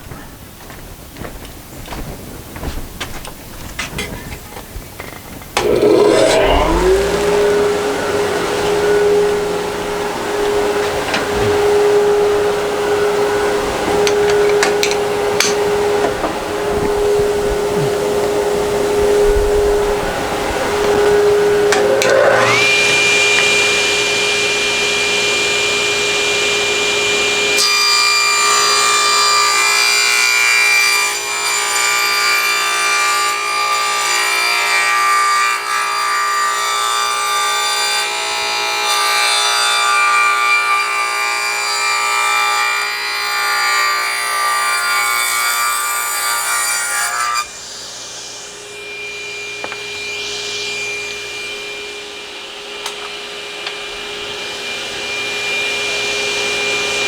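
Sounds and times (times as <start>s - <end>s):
table saw blade whining: 5.5s - 57.0s
saw cutting wooden board: 5.6s - 52.1s.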